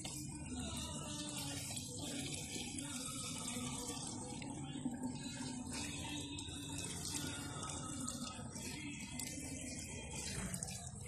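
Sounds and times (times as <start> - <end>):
water running onto tiled floor: 0.0 - 11.0.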